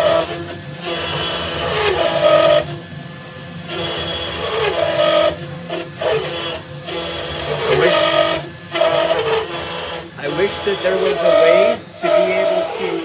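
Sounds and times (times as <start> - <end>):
cnc router motors cutting: 0.0 - 13.0.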